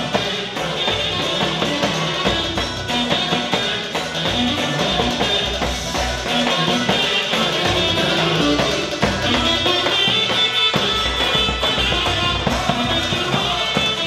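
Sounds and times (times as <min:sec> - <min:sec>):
live dance music: 0:00.0 - 0:14.0.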